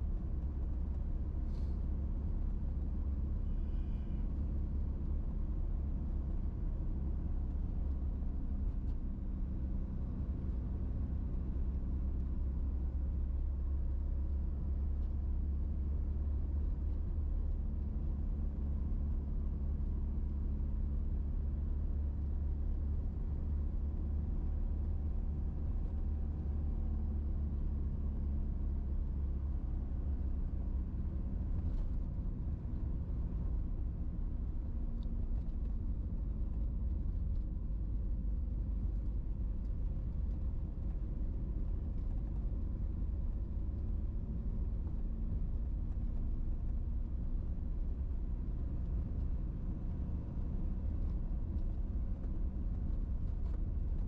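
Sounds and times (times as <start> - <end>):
faint wavering engine hum: 0.0 - 54.0
vehicle engine and tyre rumble: 0.0 - 54.0.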